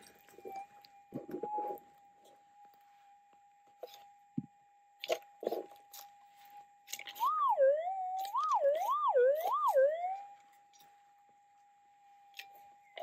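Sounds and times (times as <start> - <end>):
metal detector hum: 0.0 - 13.0.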